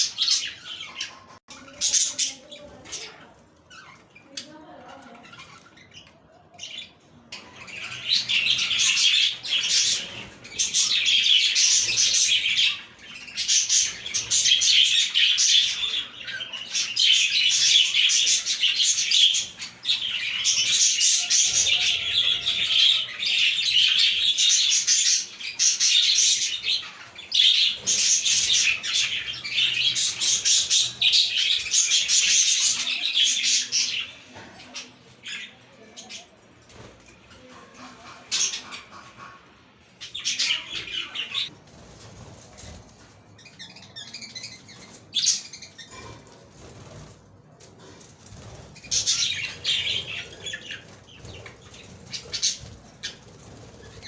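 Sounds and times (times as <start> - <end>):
budgerigars warbling and chattering: 0.0 - 54.0.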